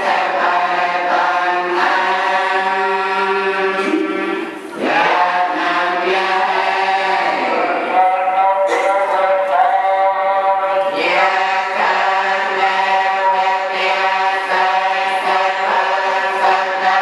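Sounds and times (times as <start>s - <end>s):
monks chanting in unison: 0.0s - 17.0s.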